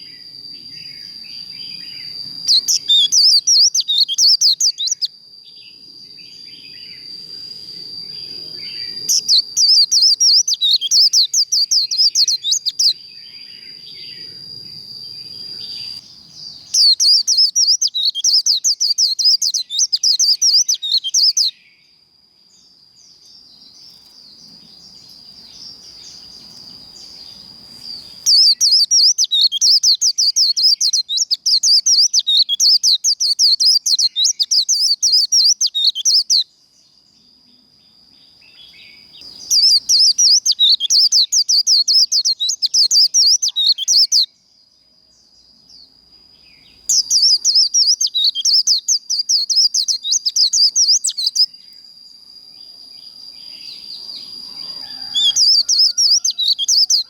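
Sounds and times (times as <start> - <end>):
bird warbling song: 0.0 - 5.7, 8.0 - 21.8, 23.3 - 36.4, 38.5 - 44.3, 46.4 - 51.8, 53.4 - 57.0.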